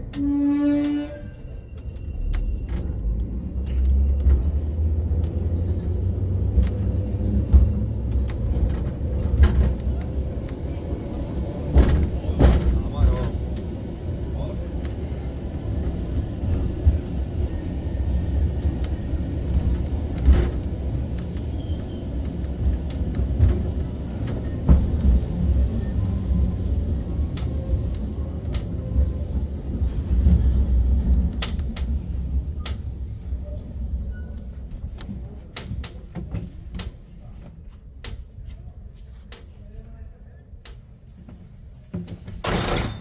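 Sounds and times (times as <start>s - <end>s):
tram rumbling on rails: 0.0s - 43.0s.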